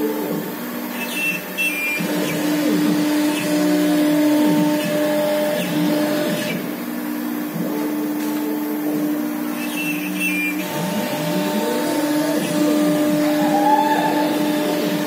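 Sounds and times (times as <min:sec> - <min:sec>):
cnc router spindle whine: 0:00.0 - 0:15.0.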